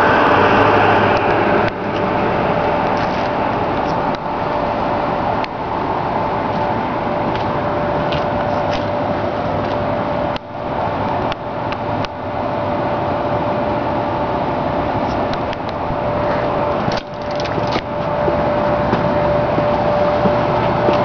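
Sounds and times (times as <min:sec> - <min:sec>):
constant high hum: 0:00.0 - 0:21.0
motor vehicle running: 0:00.0 - 0:21.0.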